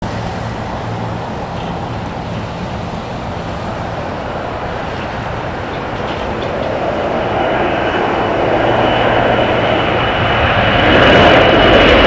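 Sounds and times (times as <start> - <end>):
jet engines from inside cabin: 0.0 - 12.0.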